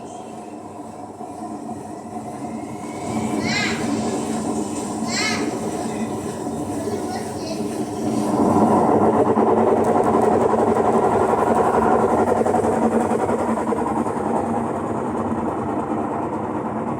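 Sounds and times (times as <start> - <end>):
washing machine spin cycle rattling: 0.0 - 16.9.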